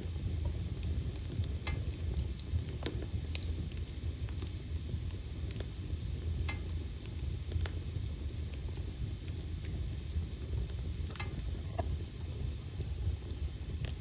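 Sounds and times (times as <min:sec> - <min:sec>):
burning wood crackling and popping: 0:00.0 - 0:14.0
fire flames rumbling and hissing: 0:00.0 - 0:14.0.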